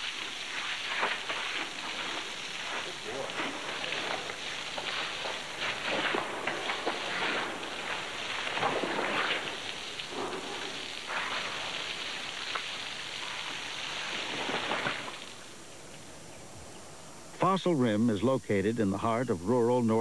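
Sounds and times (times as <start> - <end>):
hose spraying water: 0.0 - 16.1.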